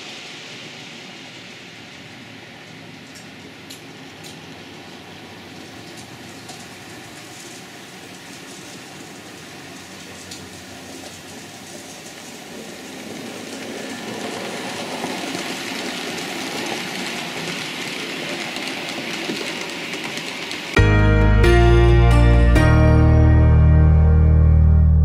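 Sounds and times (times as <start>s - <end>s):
model train rolling on track: 0.0s - 20.8s.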